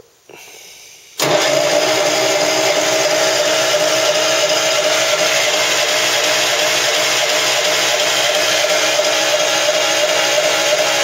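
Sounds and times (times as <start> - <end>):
diesel engine idling: 1.2 - 11.0
tractor diesel engine starting: 1.2 - 11.0.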